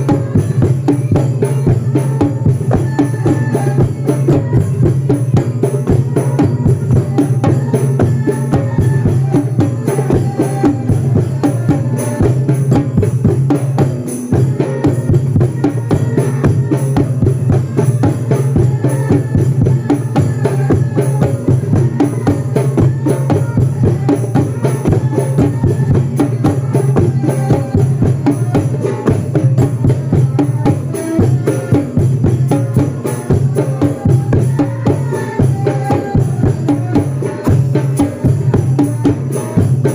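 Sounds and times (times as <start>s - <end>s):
drums in fast rhythm: 0.0s - 39.9s.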